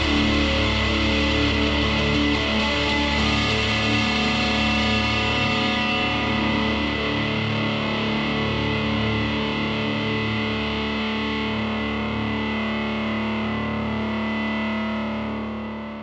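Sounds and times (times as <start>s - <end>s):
distorted electric guitar chord ringing: 0.0s - 14.2s.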